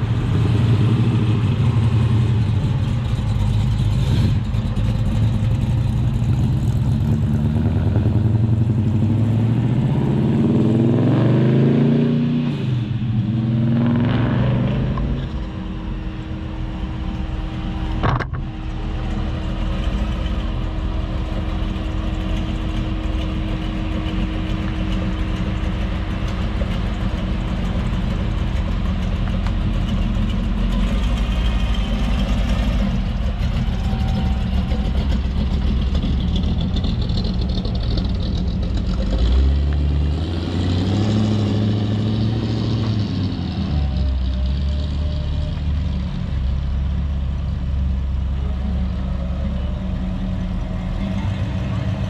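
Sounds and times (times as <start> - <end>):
car engine idling: 0.0 - 10.2, 14.8 - 39.3, 43.6 - 52.0
car engine revving: 0.0 - 52.0.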